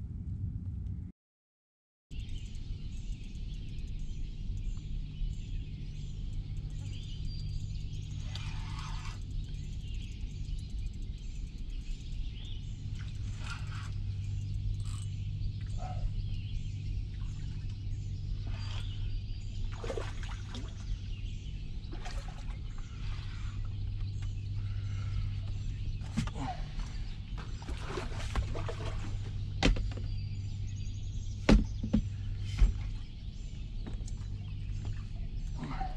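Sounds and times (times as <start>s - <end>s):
steady low hum: 0.0s - 1.1s, 2.2s - 35.9s
birds chirping: 2.2s - 35.9s.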